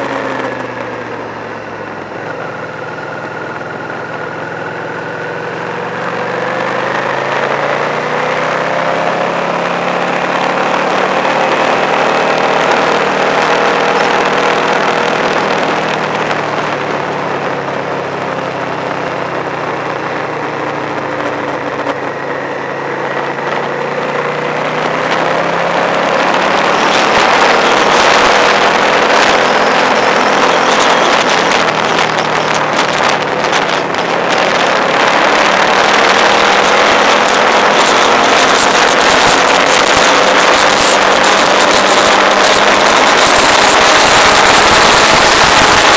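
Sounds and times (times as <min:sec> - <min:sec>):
vehicle engine running: 0:00.0 - 0:45.9
wind rushing over microphone: 0:00.0 - 0:45.9.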